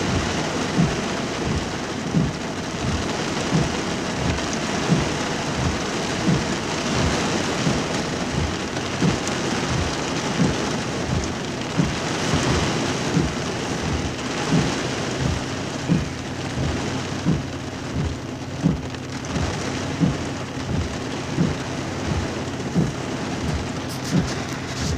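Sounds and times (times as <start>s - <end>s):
heavy rain on car roof: 0.0s - 24.9s
low thumps: 0.0s - 24.9s.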